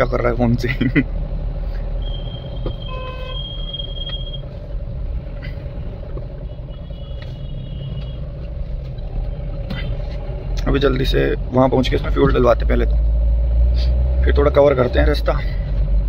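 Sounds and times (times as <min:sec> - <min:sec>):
diesel engine and road noise: 0:00.0 - 0:16.0.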